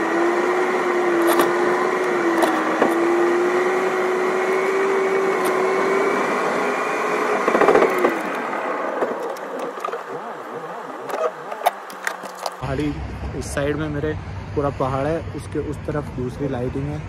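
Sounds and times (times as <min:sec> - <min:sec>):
car engine and road noise: 0:00.0 - 0:17.0
constant whine: 0:00.0 - 0:17.0.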